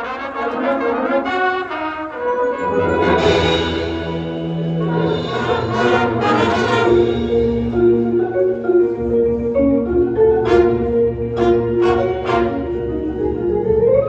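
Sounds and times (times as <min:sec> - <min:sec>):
wind instruments held notes: 0:00.0 - 0:14.0
marimba: 0:02.2 - 0:14.0.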